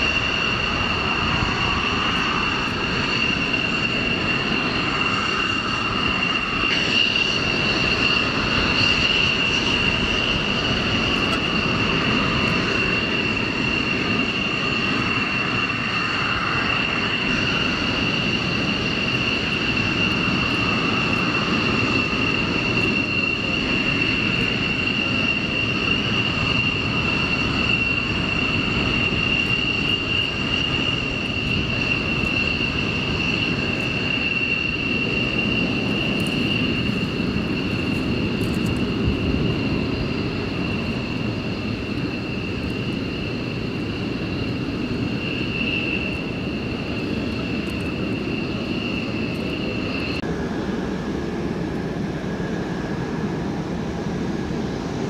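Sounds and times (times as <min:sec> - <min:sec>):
jet engine whine: 0:00.0 - 0:55.0.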